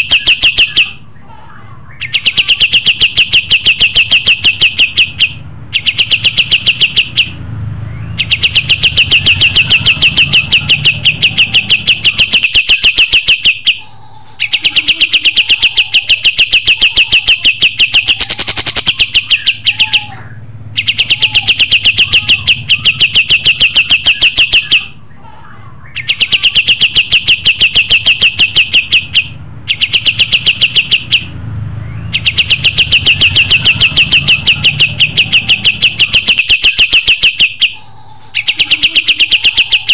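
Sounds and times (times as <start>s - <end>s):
songbird trilling: 0.0s - 1.0s, 1.9s - 25.0s, 25.8s - 39.9s.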